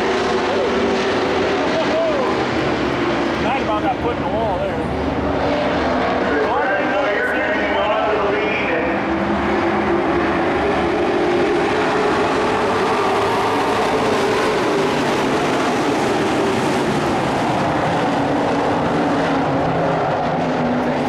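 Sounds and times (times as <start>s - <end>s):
race truck engines: 0.0s - 21.0s.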